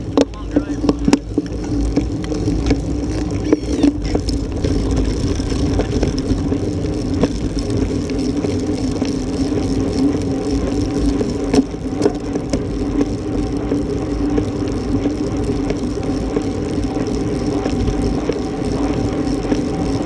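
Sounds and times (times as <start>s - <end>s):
bicycle clicks and rattles: 0.0s - 20.0s
road rumble: 0.0s - 20.0s
steady hum: 0.0s - 20.0s
wind buffeting microphone: 0.0s - 20.0s.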